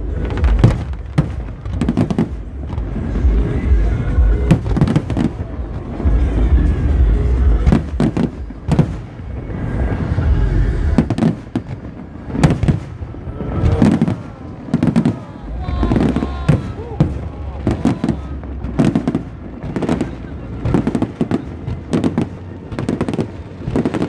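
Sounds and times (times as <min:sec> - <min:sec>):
fireworks bangs and crackling: 0:00.0 - 0:24.0
low rumble: 0:00.0 - 0:24.0
music: 0:00.0 - 0:24.0.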